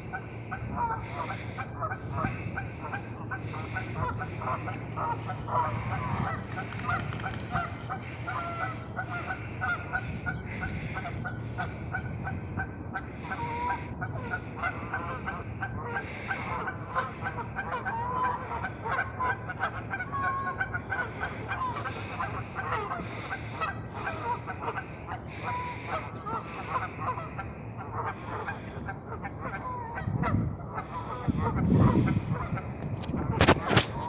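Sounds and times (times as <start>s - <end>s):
flock of birds calling: 0.0s - 34.0s.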